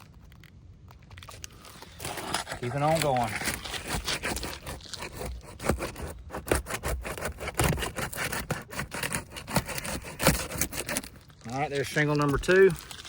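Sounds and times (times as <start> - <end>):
shingles scraping and crackling: 0.0 - 13.0.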